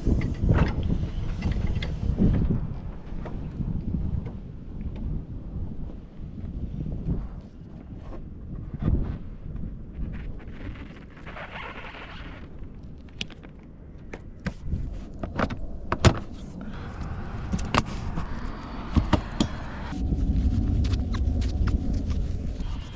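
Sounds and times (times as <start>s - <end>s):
low rumble: 0.0s - 11.1s, 12.4s - 22.9s.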